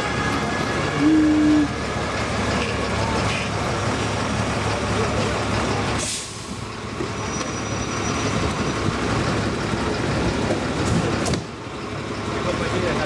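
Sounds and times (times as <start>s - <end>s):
fire truck diesel engine running: 0.0s - 13.0s.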